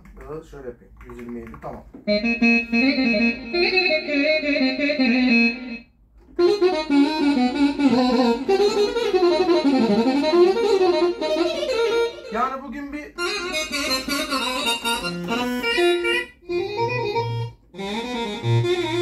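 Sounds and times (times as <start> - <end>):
keyboard lead melody: 2.0 - 19.0.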